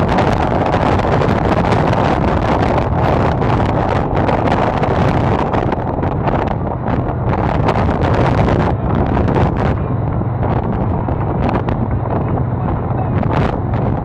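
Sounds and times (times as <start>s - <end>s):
speedboat engines droning: 0.0s - 14.0s
wind buffeting microphone: 0.0s - 14.0s.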